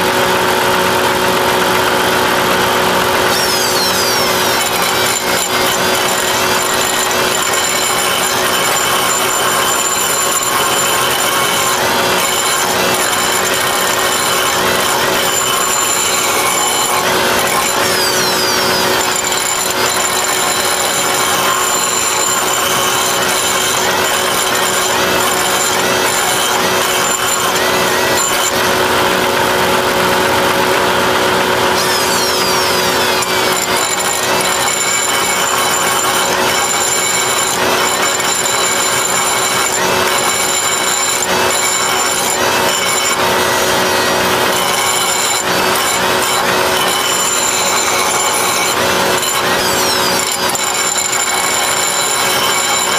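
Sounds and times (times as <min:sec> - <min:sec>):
air grinder grinding steel: 0:00.0 - 0:52.9.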